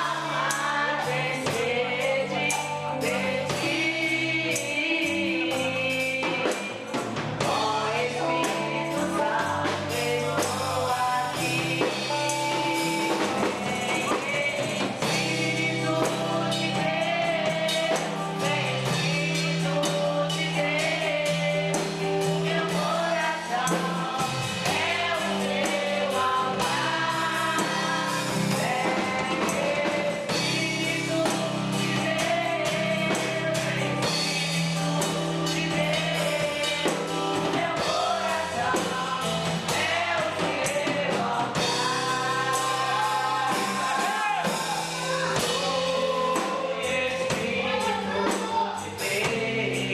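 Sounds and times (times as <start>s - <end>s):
band with drums and bass: 0.0s - 49.9s
voices singing: 0.0s - 49.9s.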